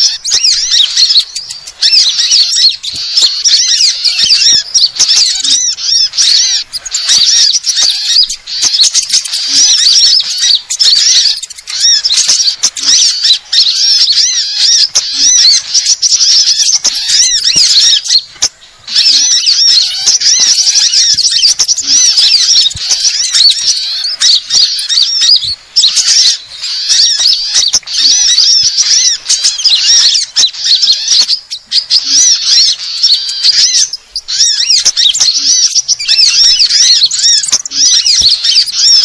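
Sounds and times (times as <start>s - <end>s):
small songbirds chirping: 0.0s - 39.0s.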